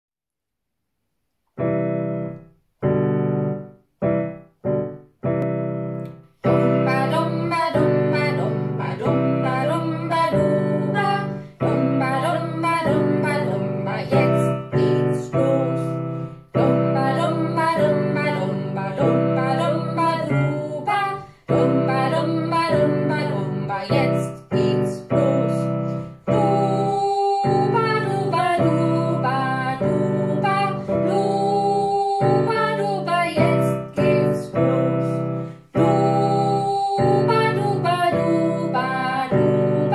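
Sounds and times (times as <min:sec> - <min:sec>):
piano chords: 0:01.6 - 0:39.9
woman singing: 0:06.4 - 0:39.9.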